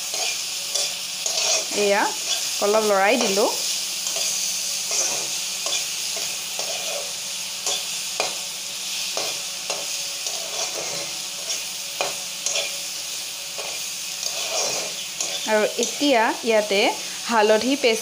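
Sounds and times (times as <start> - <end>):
metal spatula scraping a pan: 0.0 - 12.9, 13.5 - 16.3
onions sizzling in oil: 0.0 - 18.0.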